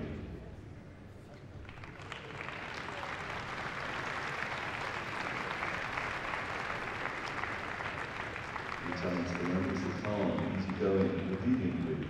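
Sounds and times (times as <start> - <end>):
large audience applauding: 1.6 - 12.0.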